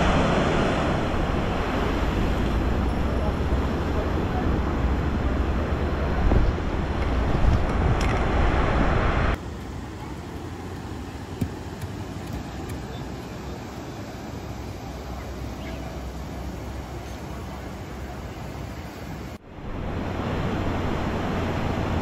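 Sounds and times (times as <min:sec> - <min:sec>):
beach surf rushing: 0:00.0 - 0:22.0.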